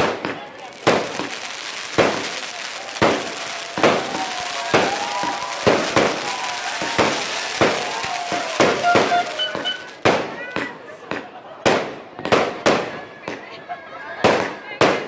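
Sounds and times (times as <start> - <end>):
fireworks bangs: 0.0 - 13.5, 14.2 - 15.0.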